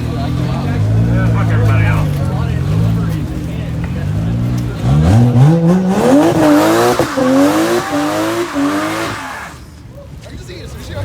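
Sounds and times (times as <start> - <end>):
car engine revving: 0.0 - 9.9
spinning tires hissing: 0.0 - 9.9.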